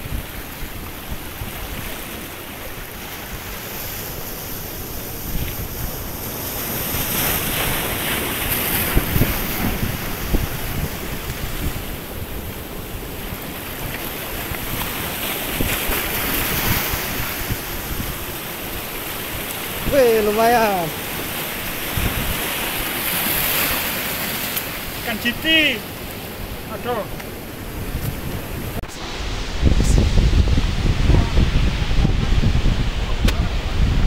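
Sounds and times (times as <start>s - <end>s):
surf washing against boulders: 0.0s - 34.0s
wind buffeting microphone: 0.0s - 34.0s.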